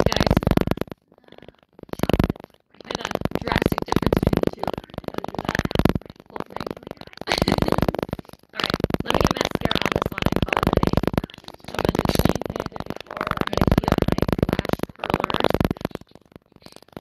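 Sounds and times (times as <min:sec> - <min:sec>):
woman's voice stuttering buzz: 0:00.0 - 0:17.0.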